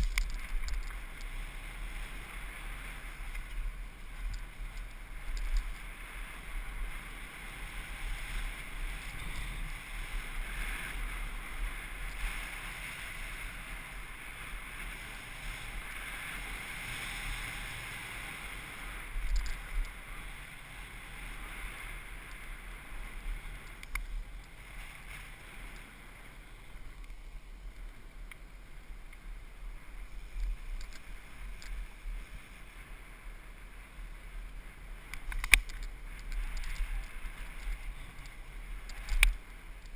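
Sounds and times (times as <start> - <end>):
bicycle tyres rolling on pavement: 0.0 - 39.9.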